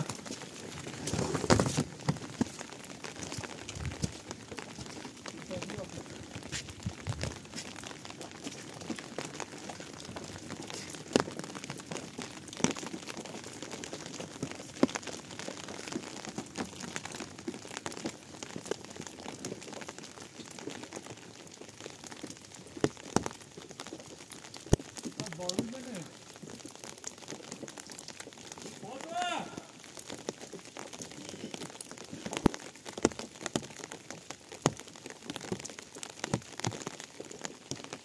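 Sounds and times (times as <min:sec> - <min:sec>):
rain pattering: 0:00.0 - 0:38.0.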